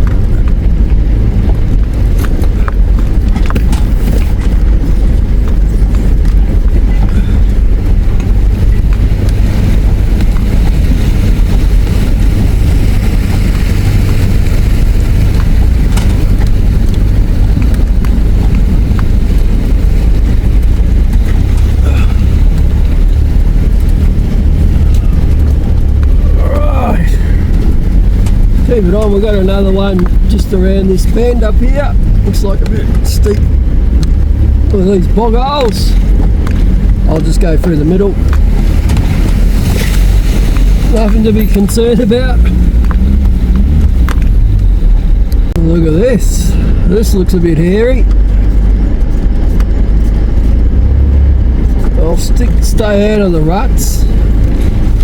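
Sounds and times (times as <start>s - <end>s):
knocks and rattles: 0.0s - 45.6s
engine and drivetrain rumble: 0.0s - 55.0s.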